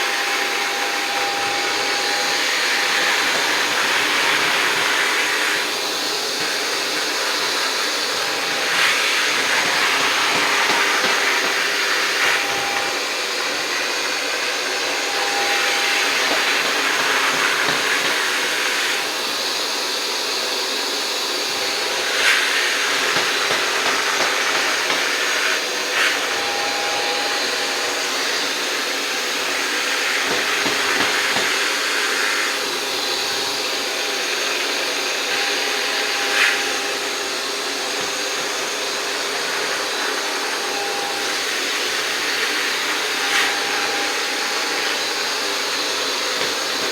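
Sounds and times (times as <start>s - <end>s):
robot vacuum running: 0.0s - 46.9s.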